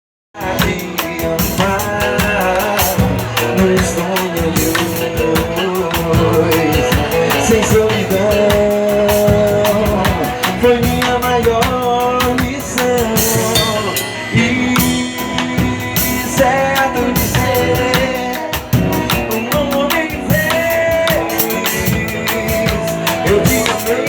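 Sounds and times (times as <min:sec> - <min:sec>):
pitched melody line: 0:00.4 - 0:24.0
steady percussion beat: 0:00.4 - 0:24.0.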